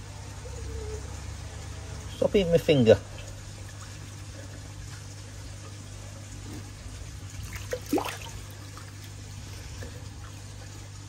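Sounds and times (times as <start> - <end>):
water trickling: 0.1 - 11.0.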